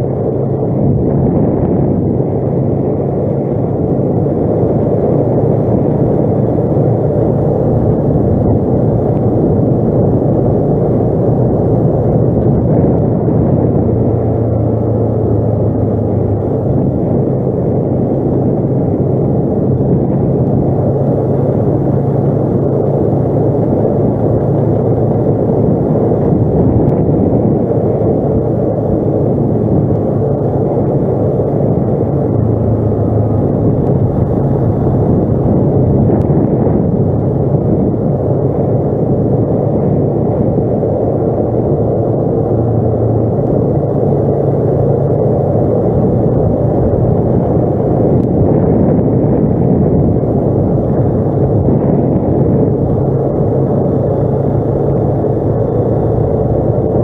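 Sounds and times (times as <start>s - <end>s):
atv engine rumbling: 0.0s - 57.0s.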